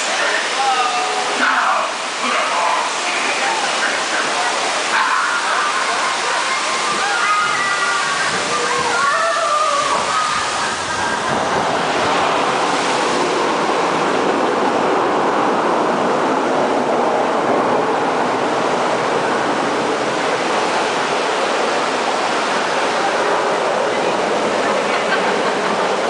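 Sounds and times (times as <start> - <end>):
water rushing around boat: 0.0 - 26.0
wind: 0.0 - 26.0.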